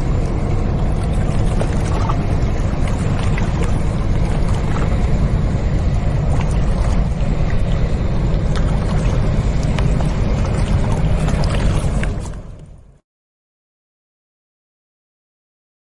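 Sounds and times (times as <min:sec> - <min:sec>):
water splashing and lapping: 0:00.0 - 0:12.9
ship engine rumble: 0:00.0 - 0:13.0.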